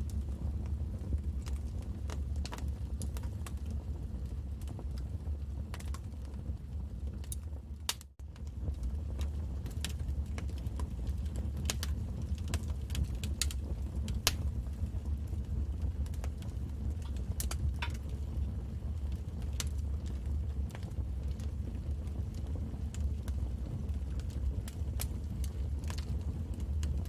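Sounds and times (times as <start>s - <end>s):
fire crackling pops and snaps: 0.0s - 27.0s
fire flames rumbling: 0.0s - 27.0s.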